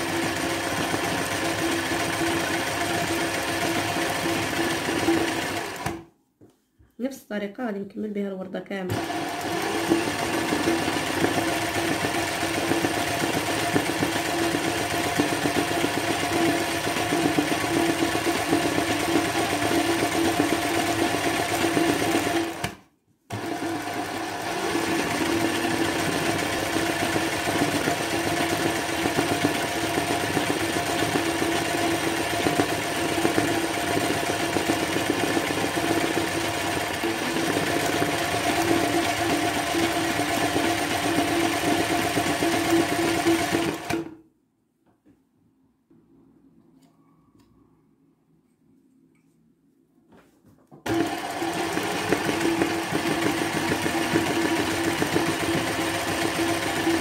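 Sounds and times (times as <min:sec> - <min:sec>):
sewing machine running: 0:00.0 - 0:06.0, 0:08.9 - 0:44.2, 0:50.8 - 0:57.0.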